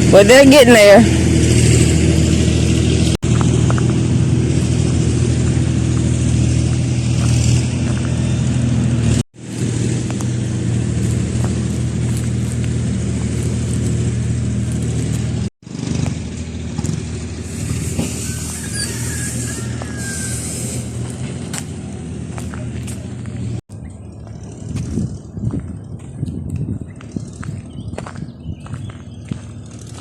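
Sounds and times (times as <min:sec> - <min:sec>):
heavy engine humming: 0:00.0 - 0:30.0
traffic noise: 0:00.0 - 0:30.0.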